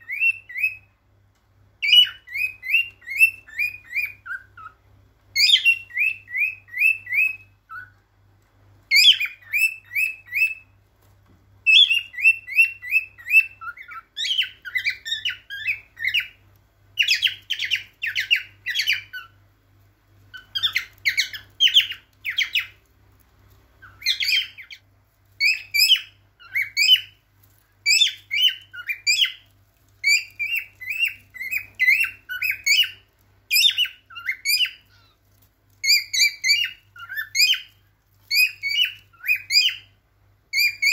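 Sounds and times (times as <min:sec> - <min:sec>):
cockatiel whistled chirps: 0:00.0 - 0:01.0, 0:01.8 - 0:04.8, 0:05.4 - 0:08.0, 0:08.9 - 0:10.8, 0:11.6 - 0:16.4, 0:17.0 - 0:19.4, 0:20.3 - 0:22.8, 0:23.8 - 0:24.8, 0:25.4 - 0:27.2, 0:27.8 - 0:35.2, 0:35.8 - 0:40.9.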